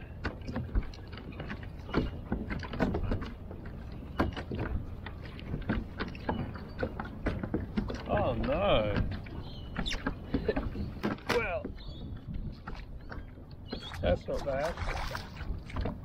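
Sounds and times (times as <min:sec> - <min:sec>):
water lapping against kayak hull: 0:00.0 - 0:16.0
wind rumble on microphone: 0:00.0 - 0:16.0.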